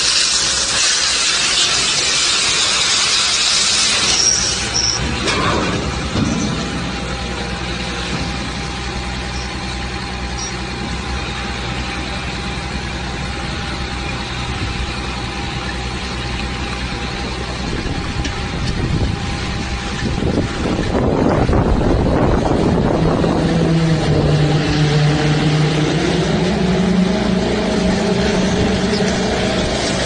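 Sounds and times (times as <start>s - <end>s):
diesel truck engine running: 0.0s - 30.0s
hydraulic whine: 0.0s - 30.0s.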